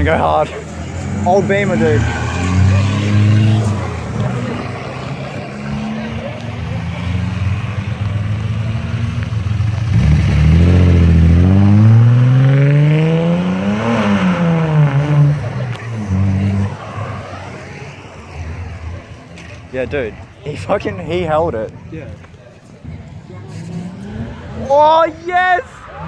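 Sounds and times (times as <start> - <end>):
car engine revving: 0.0 - 19.6, 23.3 - 26.0.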